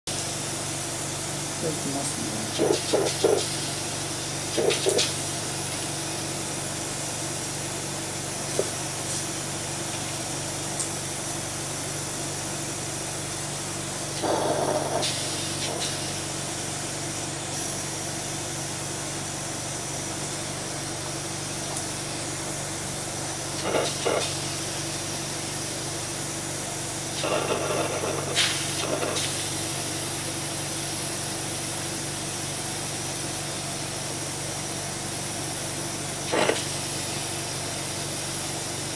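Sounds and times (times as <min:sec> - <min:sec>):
electrical equipment hum: 0:00.1 - 0:38.9.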